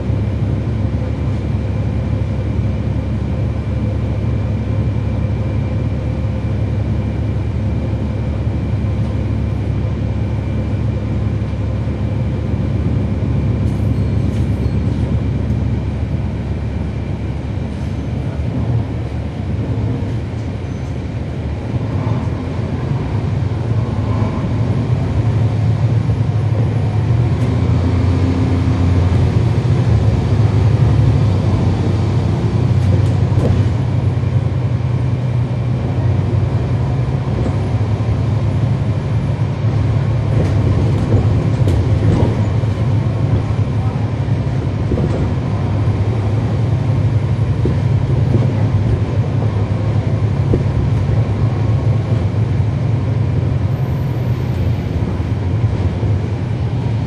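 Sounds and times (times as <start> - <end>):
diesel bus engine rumbling: 0.0 - 57.0.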